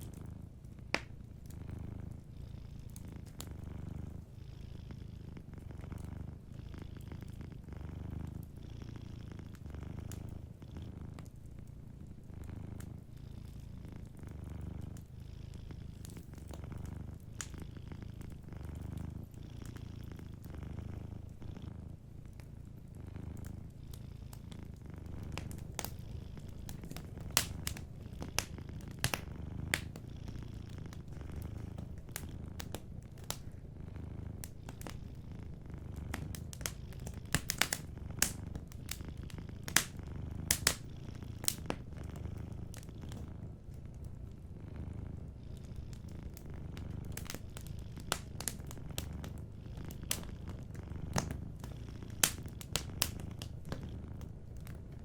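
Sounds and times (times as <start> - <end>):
cat purring: 0.0 - 55.0
fireplace fire crackling: 0.0 - 55.0.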